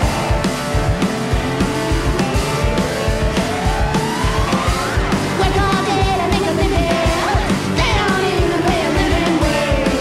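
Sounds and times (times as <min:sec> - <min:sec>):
garage punk rock music: 0:00.0 - 0:10.0.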